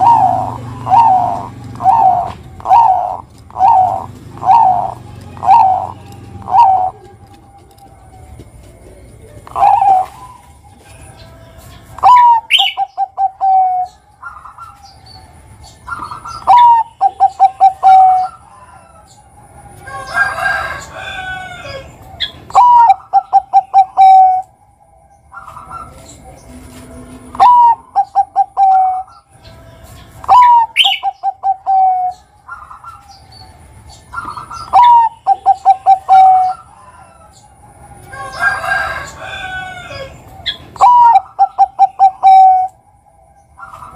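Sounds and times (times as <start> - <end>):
noisy bird call: 0.0 - 7.3, 8.9 - 24.6, 27.3 - 42.8
dove cooing: 0.0 - 11.2, 11.8 - 15.0, 15.8 - 19.1, 19.7 - 24.5, 25.3 - 29.3, 30.1 - 37.4, 38.0 - 42.8.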